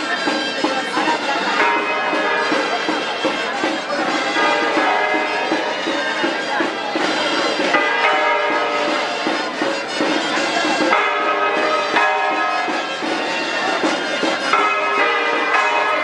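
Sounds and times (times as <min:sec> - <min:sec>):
accordion: 0:00.0 - 0:14.7
bell-like ringing tones: 0:00.0 - 0:16.0.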